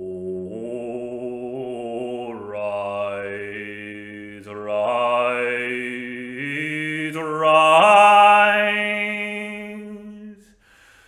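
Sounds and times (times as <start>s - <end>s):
man singing unaccompanied: 0.0s - 10.5s.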